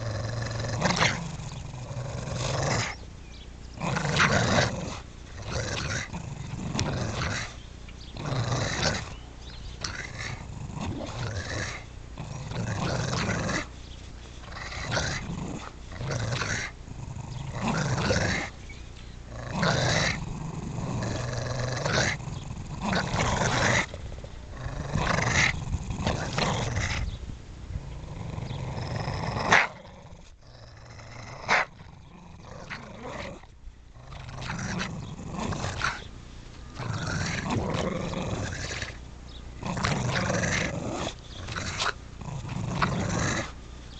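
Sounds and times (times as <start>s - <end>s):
dogs growling: 0.0s - 3.0s, 3.7s - 13.8s, 14.4s - 18.6s, 19.3s - 36.1s, 36.7s - 43.6s.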